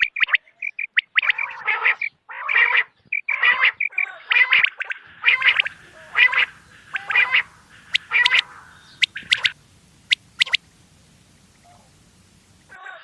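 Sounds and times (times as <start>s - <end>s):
thin high chirps: 0.0s - 2.1s, 3.2s - 12.8s
quail rasping calls: 0.0s - 12.8s.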